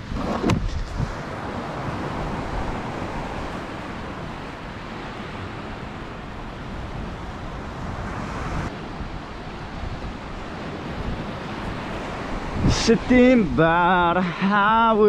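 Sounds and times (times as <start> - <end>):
surf on rocky shore: 0.0 - 15.0
wind buffeting microphone: 0.0 - 15.0.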